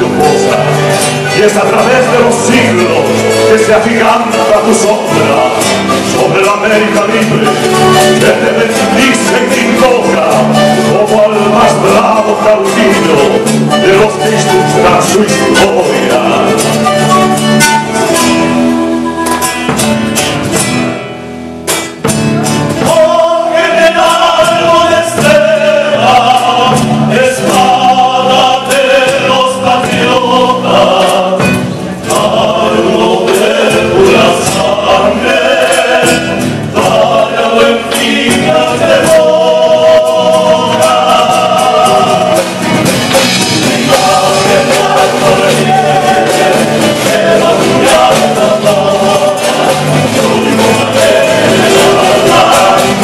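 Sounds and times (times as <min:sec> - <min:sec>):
male group singing in harmony: 0:00.0 - 0:18.9, 0:22.7 - 0:53.0
strummed acoustic guitars: 0:00.0 - 0:53.0.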